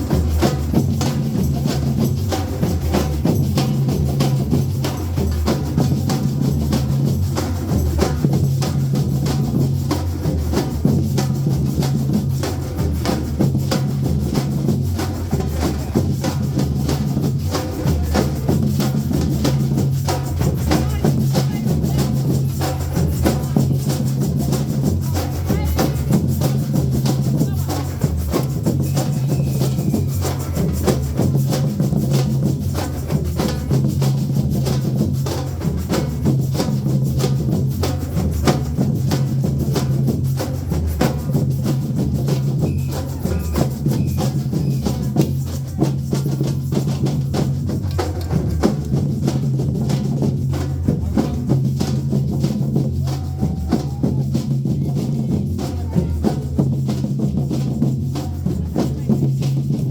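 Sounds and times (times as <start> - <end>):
drums: 0.0 - 59.9
steel band percussion rhythm: 0.0 - 59.9.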